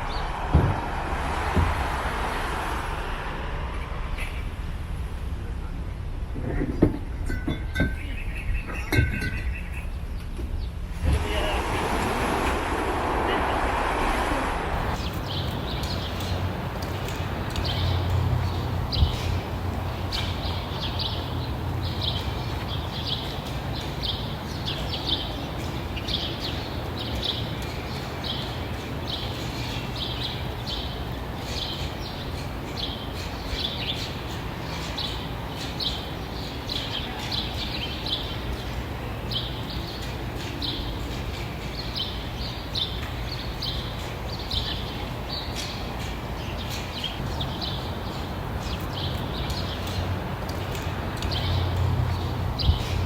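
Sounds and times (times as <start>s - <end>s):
birds chirping: 7.7s - 12.4s, 13.2s - 53.0s.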